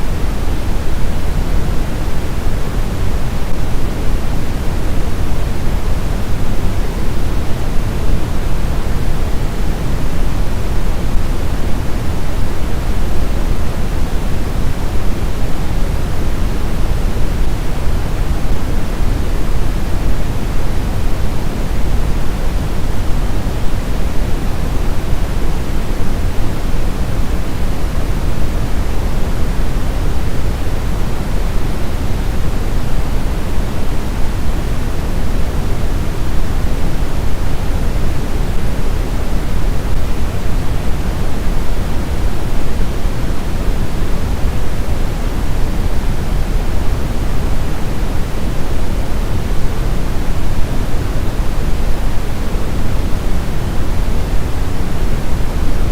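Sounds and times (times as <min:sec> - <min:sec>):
steady white noise hiss: 0:00.0 - 0:55.9.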